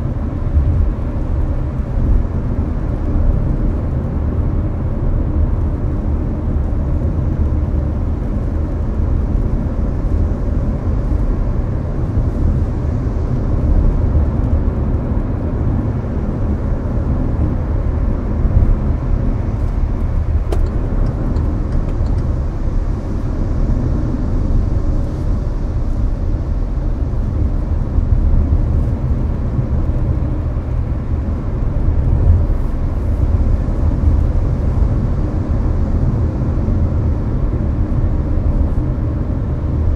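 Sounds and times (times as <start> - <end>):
air conditioning blowing: 0.0 - 39.9
road and engine rumble: 0.0 - 39.9.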